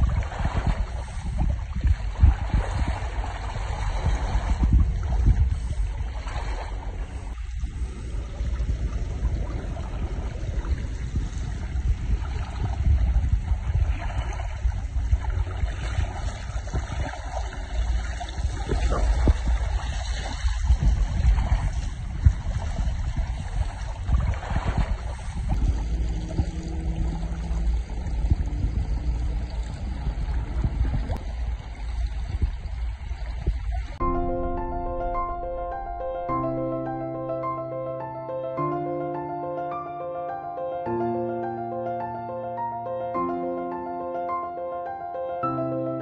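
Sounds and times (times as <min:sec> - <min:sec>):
wind buffeting microphone: 0:00.0 - 0:37.5
water rushing along hull: 0:00.0 - 0:46.0.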